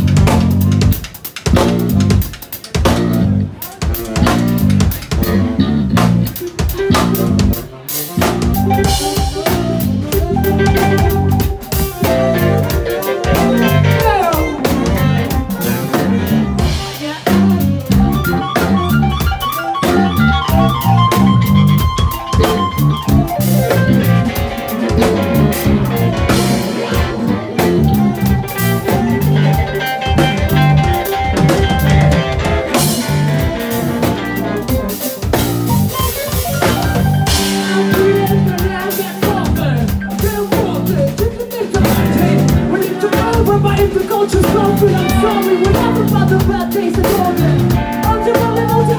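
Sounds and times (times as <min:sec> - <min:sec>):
drum kit beat: 0:00.0 - 0:48.9
guitar: 0:00.0 - 0:48.9
sustained keyboard notes: 0:00.0 - 0:48.9.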